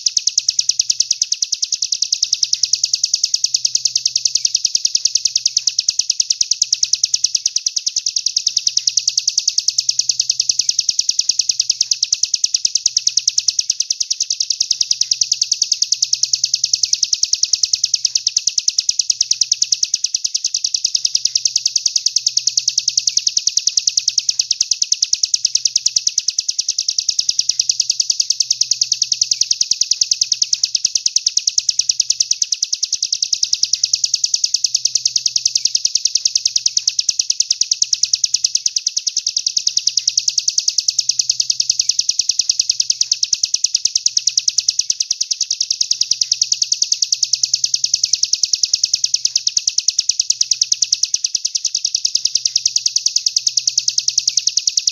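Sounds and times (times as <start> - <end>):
songbird trilling: 0.0 - 51.2, 52.1 - 53.1.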